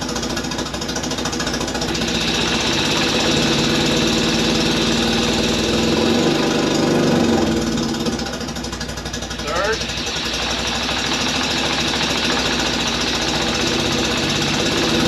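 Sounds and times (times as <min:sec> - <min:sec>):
car engine running rough: 0:00.0 - 0:15.0.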